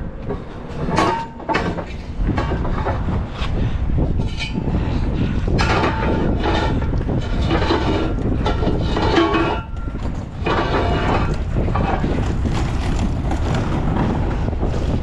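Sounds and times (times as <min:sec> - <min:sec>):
rolling metal rumble: 0:00.0 - 0:15.0
metallic squeals and clatter: 0:00.2 - 0:03.3, 0:04.0 - 0:15.0.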